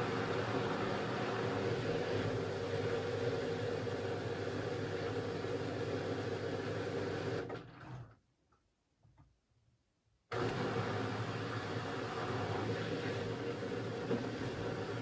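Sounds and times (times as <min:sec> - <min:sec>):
washing machine humming and whirring: 0:00.0 - 0:08.2, 0:10.3 - 0:15.0.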